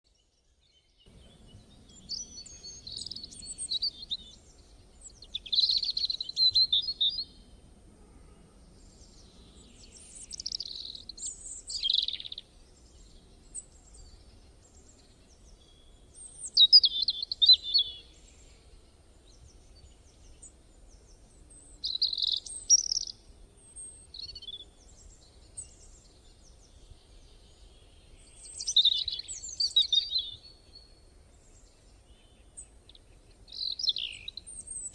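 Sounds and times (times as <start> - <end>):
songbird chirping: 0.1 - 34.9.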